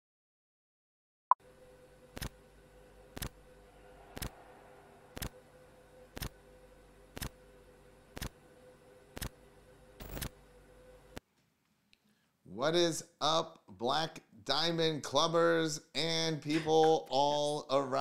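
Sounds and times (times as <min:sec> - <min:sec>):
faint steady hum: 0:01.4 - 0:18.0.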